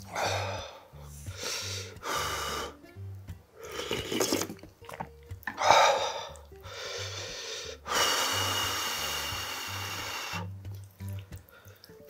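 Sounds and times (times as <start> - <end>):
man blowing to cool food: 0.0 - 12.0.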